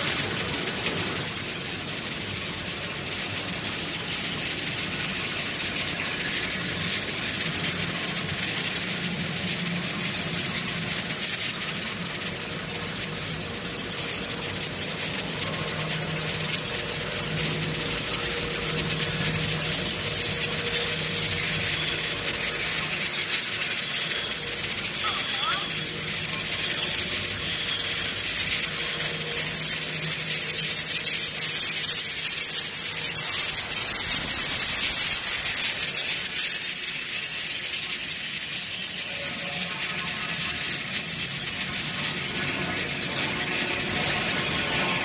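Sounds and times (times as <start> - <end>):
low machine hum: 0.0 - 45.0
machinery hiss: 0.0 - 45.0.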